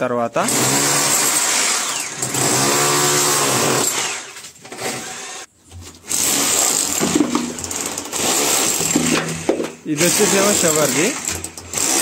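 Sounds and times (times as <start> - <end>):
hammer drill chiselling brick: 0.4 - 12.0.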